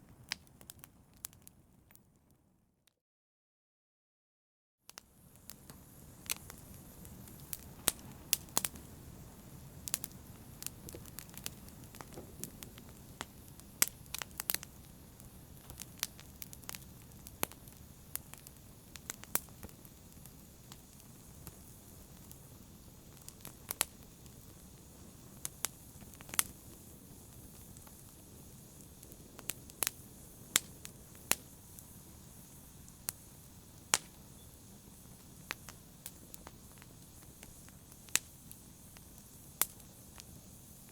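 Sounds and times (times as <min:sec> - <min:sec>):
wood fire crackling: 0:00.0 - 0:02.3, 0:05.0 - 0:40.9.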